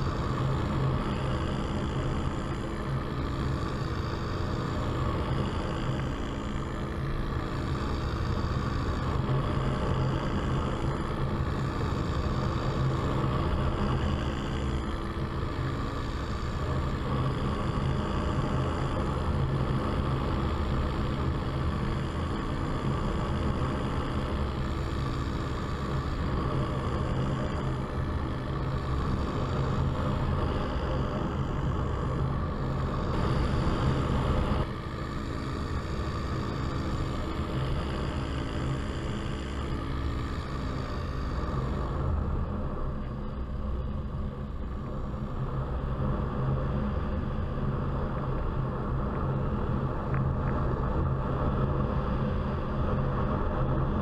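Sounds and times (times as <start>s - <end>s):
paramotor engine and propeller: 0.0s - 54.0s.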